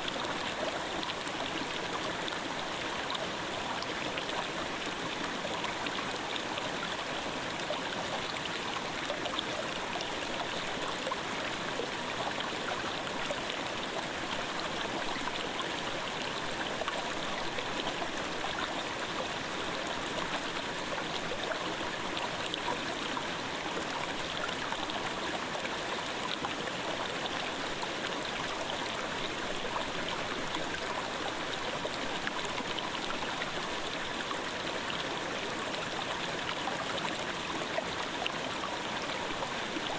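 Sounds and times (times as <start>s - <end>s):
mountain stream babbling: 0.0s - 39.9s.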